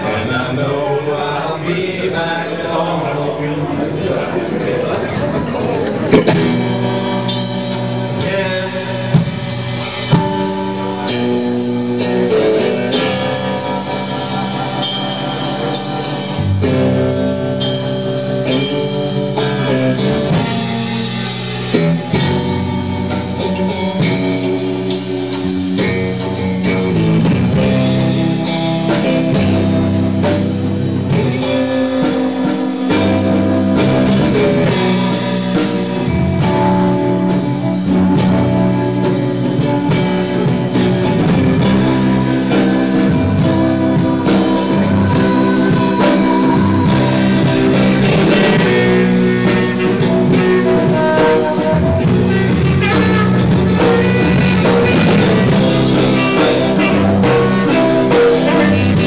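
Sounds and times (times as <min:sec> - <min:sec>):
electric guitars playing: 0:03.8 - 0:59.0
steady drum beat: 0:06.0 - 0:59.0.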